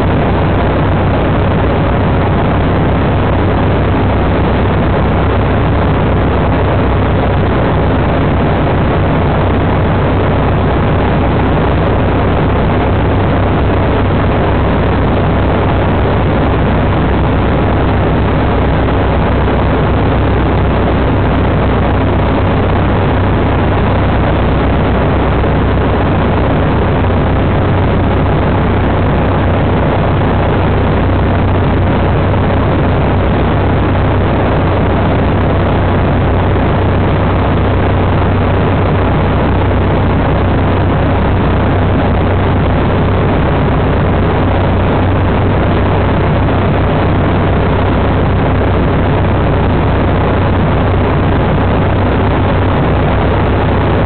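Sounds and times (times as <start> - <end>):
deep low hum: 0.0 - 54.0
light aircraft engine droning: 0.0 - 54.0.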